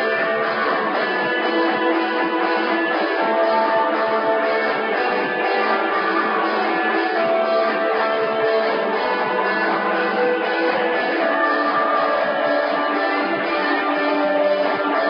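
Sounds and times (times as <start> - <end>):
band with strummed electric guitars: 0.0 - 15.0.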